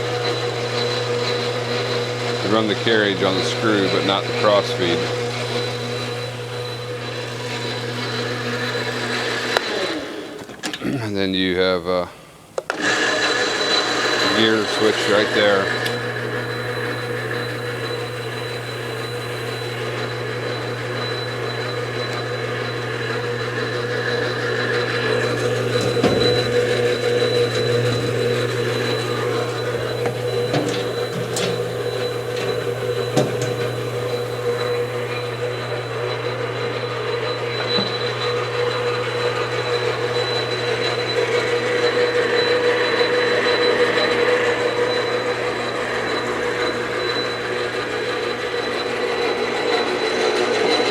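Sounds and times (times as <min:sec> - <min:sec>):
lathe motor hum and gear whine: 0:00.0 - 0:50.9.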